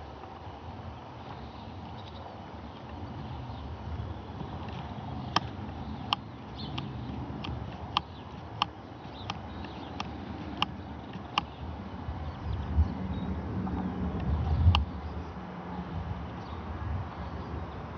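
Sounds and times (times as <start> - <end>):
low jet engine rumble: 0.0 - 17.9.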